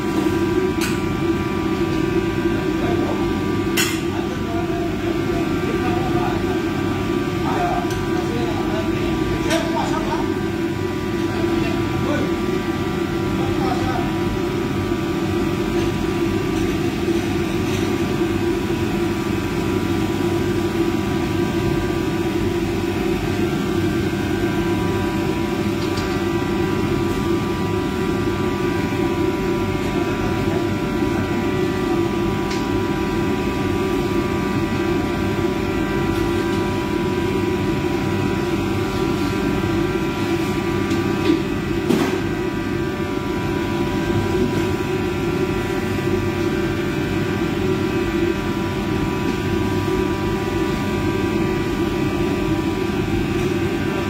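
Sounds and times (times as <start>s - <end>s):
kitchen exhaust hood droning: 0.0s - 54.0s.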